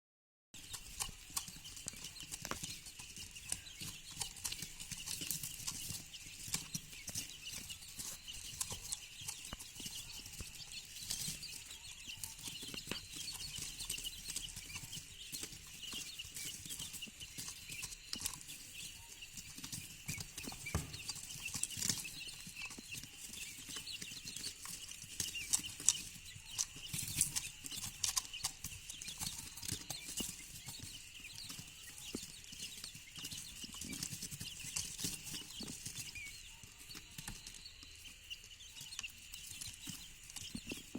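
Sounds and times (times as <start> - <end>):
chicks peeping: 0.6 - 40.9.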